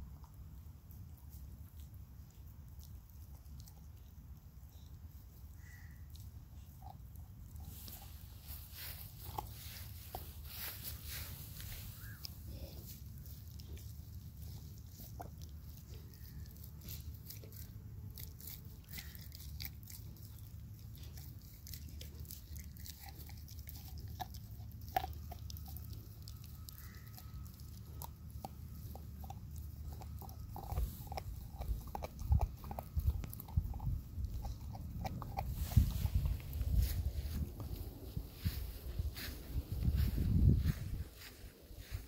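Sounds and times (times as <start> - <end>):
puppy chewing on bone: 0.0 - 42.0.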